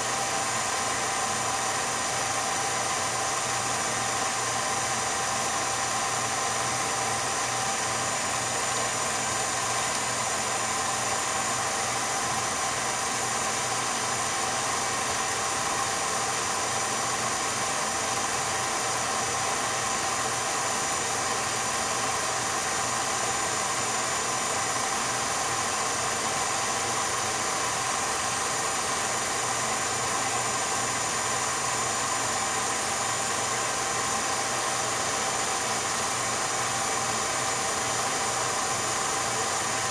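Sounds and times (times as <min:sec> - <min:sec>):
film projector motor hum: 0:00.0 - 0:39.9
projector fan hiss: 0:00.0 - 0:39.9.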